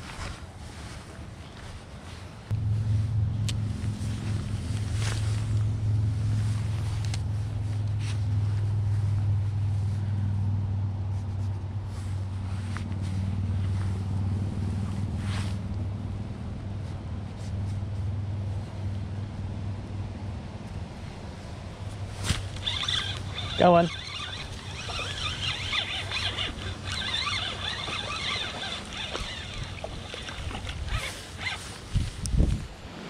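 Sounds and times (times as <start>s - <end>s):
low engine drone: 2.5s - 31.4s.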